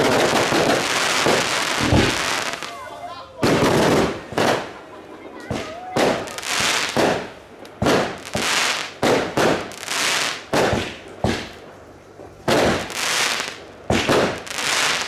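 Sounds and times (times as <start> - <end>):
firework bangs with crackle: 0.0 - 2.8, 3.4 - 4.8, 5.4 - 15.0.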